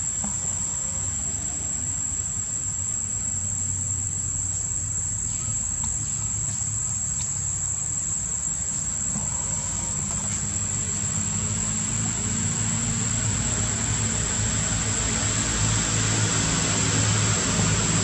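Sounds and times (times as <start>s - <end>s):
insects droning: 0.0s - 18.0s
low engine hum: 0.0s - 18.0s.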